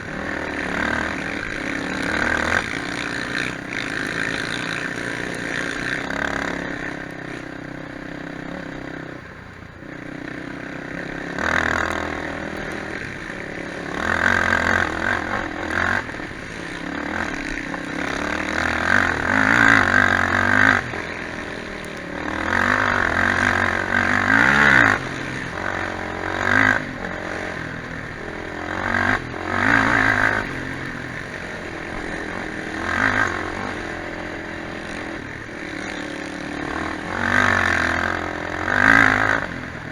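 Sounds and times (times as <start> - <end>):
quad bike engines revving: 0.0 - 39.9.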